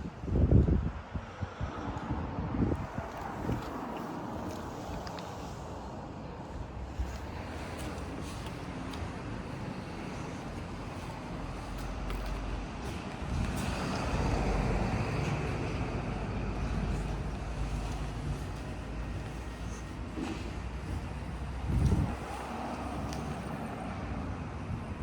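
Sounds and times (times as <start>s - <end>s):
motor vehicle rumble: 0.0s - 25.0s.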